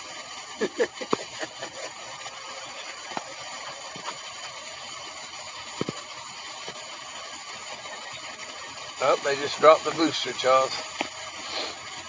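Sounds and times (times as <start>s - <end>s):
vehicle running hiss: 0.0s - 12.0s.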